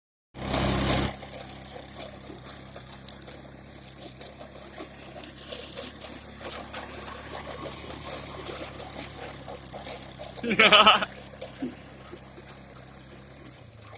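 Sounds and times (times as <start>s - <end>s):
small engine idling: 0.4s - 13.9s
light ticks and rattles: 0.5s - 13.9s.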